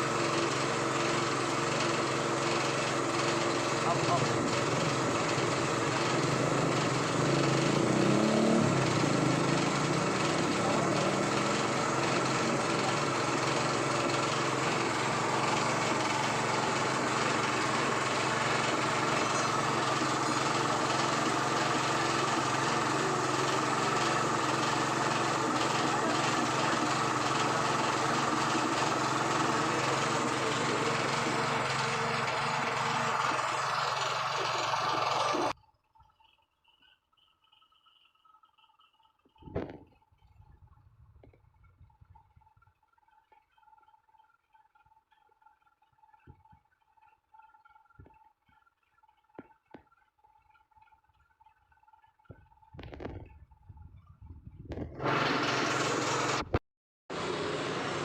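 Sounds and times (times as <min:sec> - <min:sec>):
small motorcycle engine running: 0:00.0 - 0:36.4, 0:37.1 - 0:58.0.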